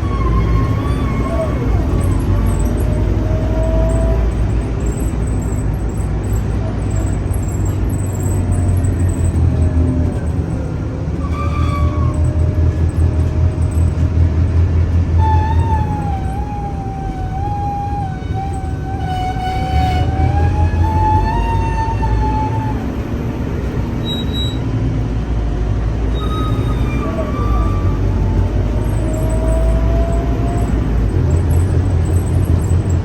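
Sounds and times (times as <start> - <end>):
bus engine drone: 0.0 - 33.0
driveline whine: 0.0 - 33.0.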